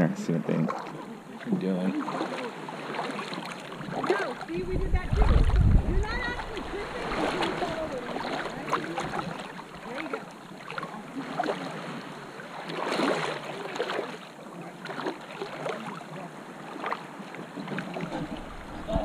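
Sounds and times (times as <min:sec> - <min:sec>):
seawater lapping and sloshing: 0:00.0 - 0:19.0
small water splashes: 0:00.4 - 0:19.0.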